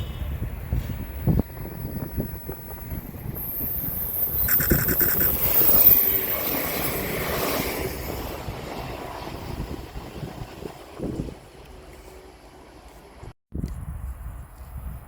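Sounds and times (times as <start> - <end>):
train passing at speed: 0.3 - 13.3.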